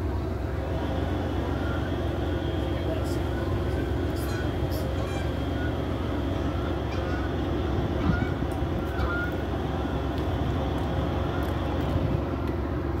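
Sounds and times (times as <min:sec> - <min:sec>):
diesel locomotives idling: 0:00.0 - 0:13.0.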